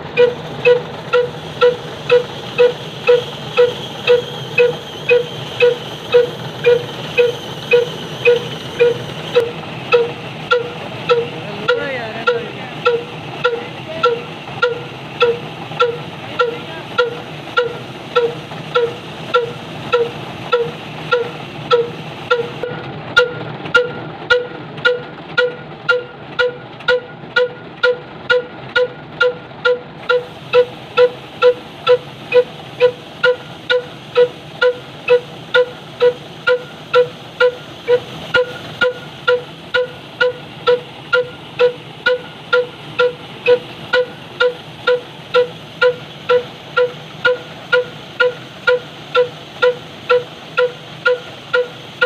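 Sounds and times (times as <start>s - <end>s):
diesel engine exhaust puffing: 0.0s - 52.0s.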